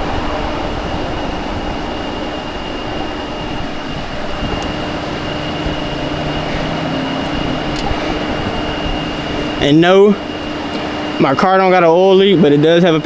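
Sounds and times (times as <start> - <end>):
low steady tone: 0.0 - 12.0
mechanical hum: 0.0 - 13.0.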